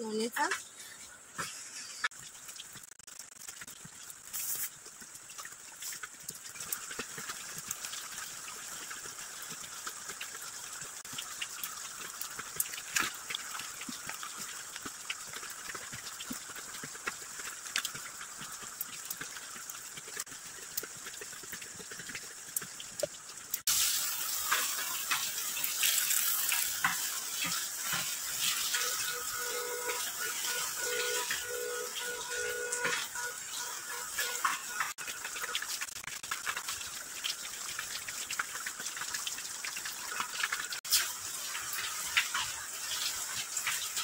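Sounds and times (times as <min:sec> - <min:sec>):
rain hissing: 0:00.0 - 0:44.0
drips and small clicks: 0:02.0 - 0:23.7, 0:24.5 - 0:44.0.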